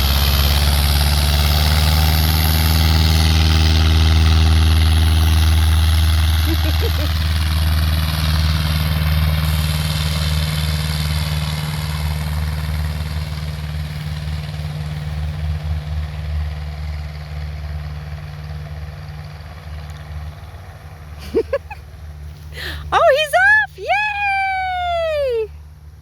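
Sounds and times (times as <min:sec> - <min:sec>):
airplane engine and propeller drone: 0:00.0 - 0:22.5.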